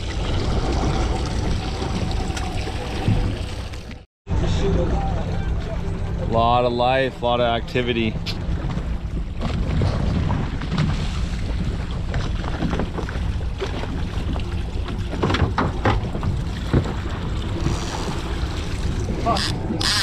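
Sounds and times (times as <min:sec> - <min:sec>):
outboard motor running: 0:02.2 - 0:10.8, 0:11.4 - 0:20.0.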